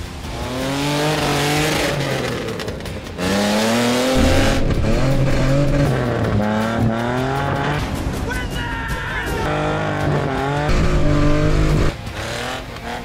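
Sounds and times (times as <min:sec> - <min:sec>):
truck engine revving hard: 0:00.1 - 0:08.2, 0:09.4 - 0:13.0.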